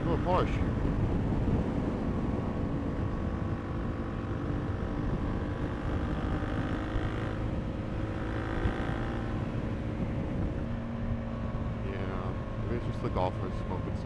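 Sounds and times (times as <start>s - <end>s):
wind noise: 0.0s - 11.8s
motorcycle engine cruising: 0.0s - 14.0s
road rumble: 0.0s - 14.0s.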